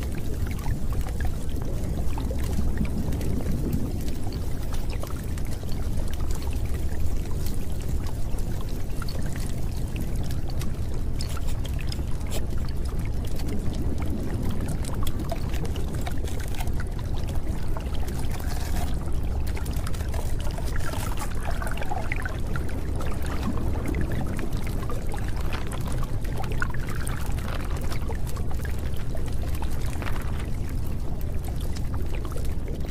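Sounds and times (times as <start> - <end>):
steady water noise: 0.0 - 32.9.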